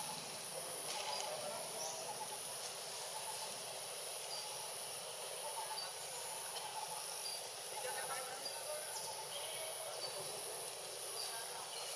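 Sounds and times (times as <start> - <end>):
high-pitched insect drone: 0.0 - 11.9.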